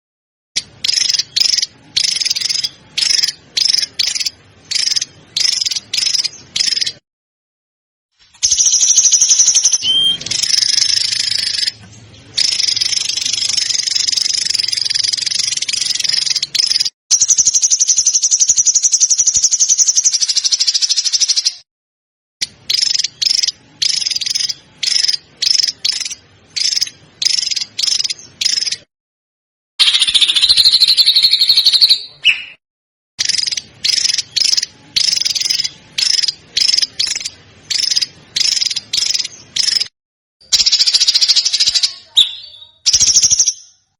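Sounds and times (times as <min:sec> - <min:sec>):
songbird buzzy trills: 0:00.6 - 0:07.0, 0:08.4 - 0:21.6, 0:22.4 - 0:28.9, 0:33.2 - 0:43.9.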